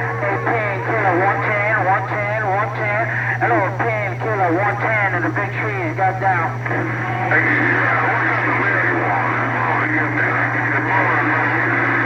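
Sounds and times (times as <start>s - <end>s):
faint garbled radio voices: 0.0s - 12.0s
radio receiver hiss: 0.0s - 12.0s
steady low hum: 0.0s - 12.0s.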